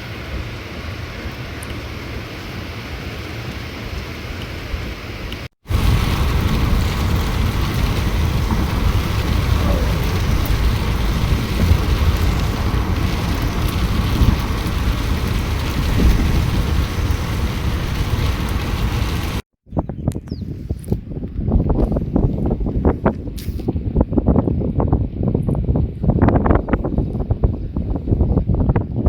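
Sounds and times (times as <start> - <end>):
storm wind and rain: 0.0 - 29.0
wind buffeting microphone: 4.2 - 29.0.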